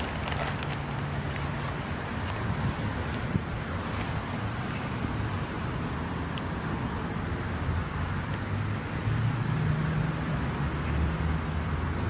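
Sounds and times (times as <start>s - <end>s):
engine hum: 0.0s - 12.0s
road traffic rumble: 0.0s - 12.0s.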